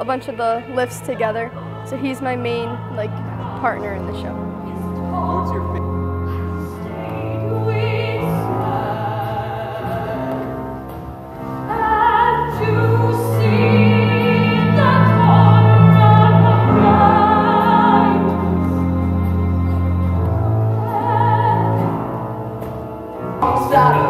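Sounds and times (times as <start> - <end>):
woman singing with vibrato: 0.0 - 22.2, 23.4 - 24.0
sustained accompaniment notes: 0.0 - 24.0.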